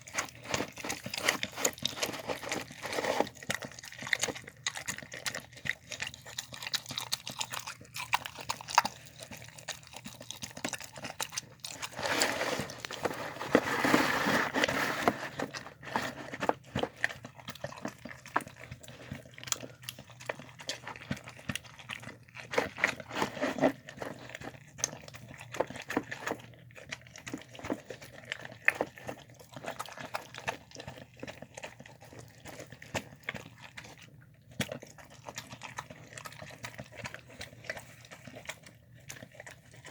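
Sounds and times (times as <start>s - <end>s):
dog chewing wet food: 0.0s - 39.9s.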